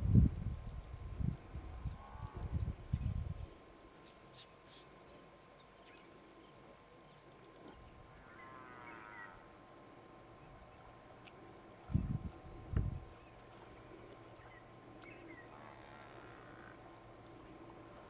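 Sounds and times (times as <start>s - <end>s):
faint insect buzz: 0.0s - 18.0s.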